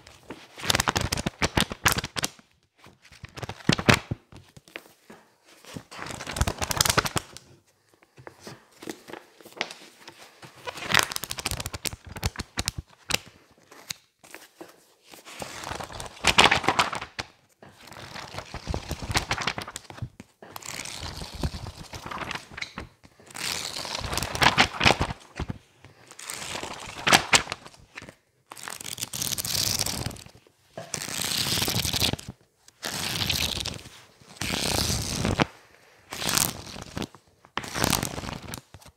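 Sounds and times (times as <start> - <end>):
book pages flipping: 0.0 - 35.5, 36.2 - 38.9.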